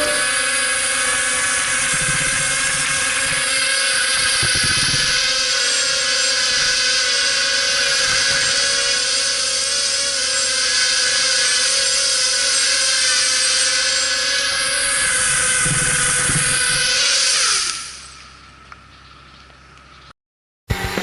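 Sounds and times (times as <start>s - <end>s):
drone motors whining: 0.0s - 18.7s.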